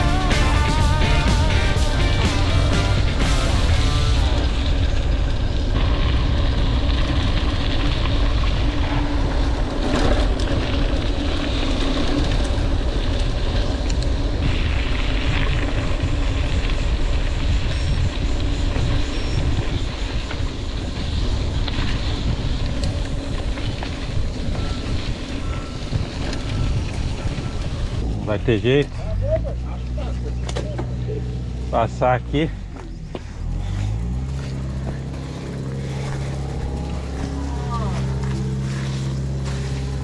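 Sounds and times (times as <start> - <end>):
road noise: 0.0 - 40.0
wind rumble on microphone: 3.0 - 40.0.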